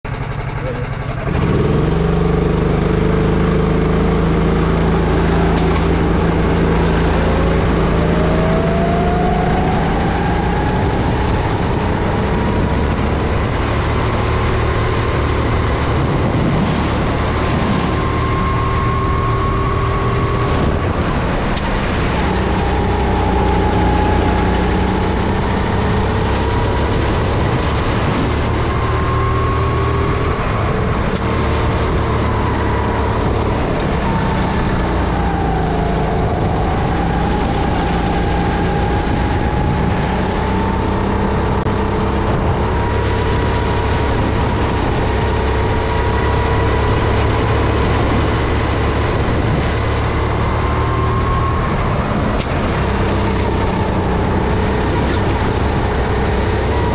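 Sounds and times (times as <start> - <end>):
kart engine revving: 0.1 - 56.9.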